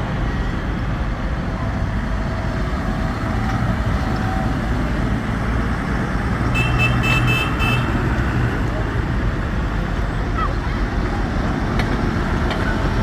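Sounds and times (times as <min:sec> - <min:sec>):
road noise: 0:00.0 - 0:13.0
tractor engines rumbling: 0:00.0 - 0:13.0.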